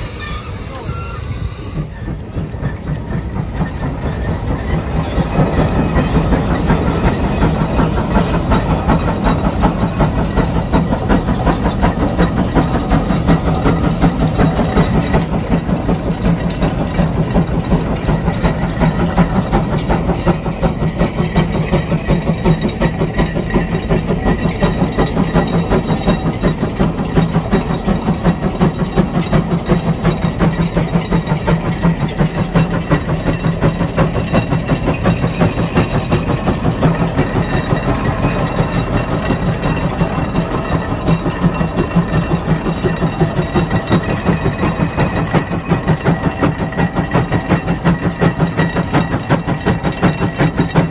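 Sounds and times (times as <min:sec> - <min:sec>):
steam engine exhaust chuffing: 0:00.0 - 0:50.9.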